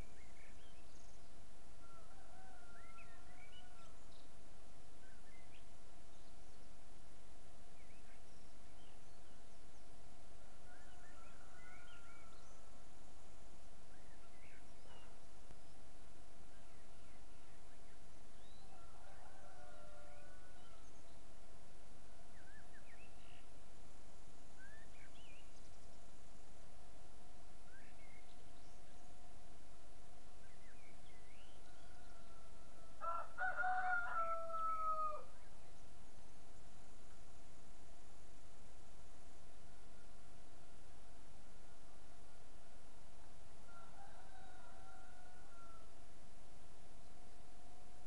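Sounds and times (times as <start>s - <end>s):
background hiss: 0.0s - 48.0s
faint birdsong: 0.0s - 48.0s
faint constant tone: 0.0s - 48.0s.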